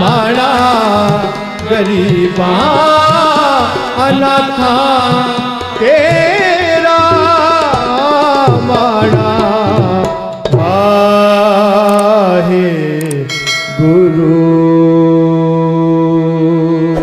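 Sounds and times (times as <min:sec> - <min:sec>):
harmonium: 0:00.0 - 0:17.0
man singing: 0:00.0 - 0:17.0
tabla: 0:00.0 - 0:17.0.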